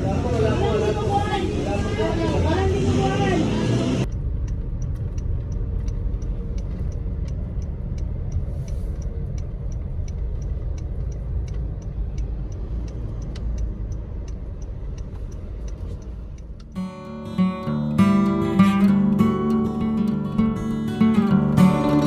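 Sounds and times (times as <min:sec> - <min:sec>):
road and engine rumble: 0:00.0 - 0:22.0
turn signal ticking: 0:00.2 - 0:22.0.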